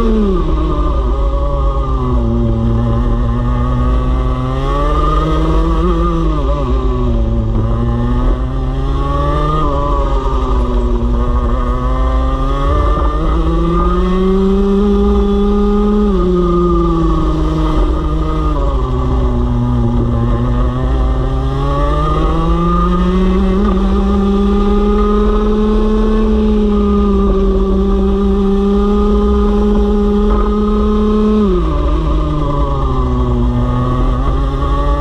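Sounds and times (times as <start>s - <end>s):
two-stroke kart engine: 0.0s - 35.0s.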